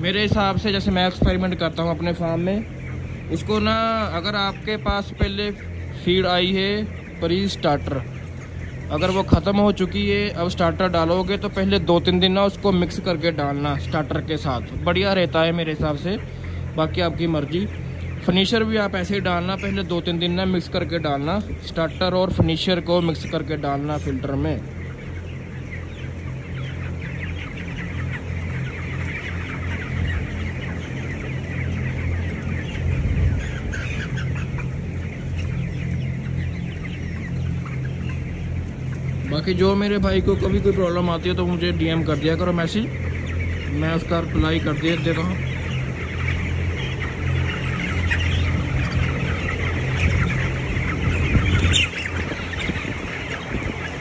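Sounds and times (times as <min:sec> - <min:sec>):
chickens chirping and clucking: 0:00.0 - 0:54.0
steady low hum: 0:00.0 - 0:54.0.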